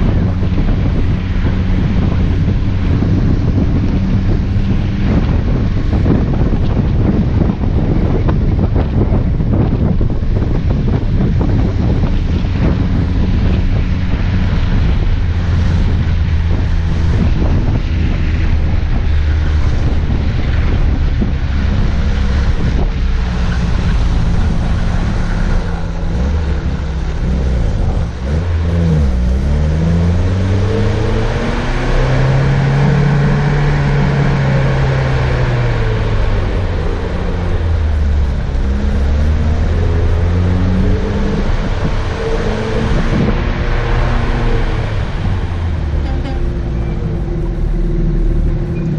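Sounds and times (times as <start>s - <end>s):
off-road vehicle engine droning: 0.0s - 48.9s.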